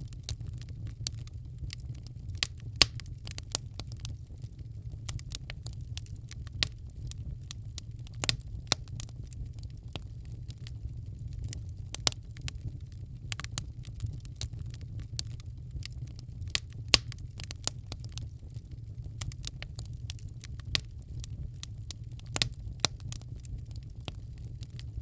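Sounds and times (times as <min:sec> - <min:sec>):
fire low rumble: 0:00.0 - 0:25.0
wood fire crackling: 0:00.0 - 0:25.0.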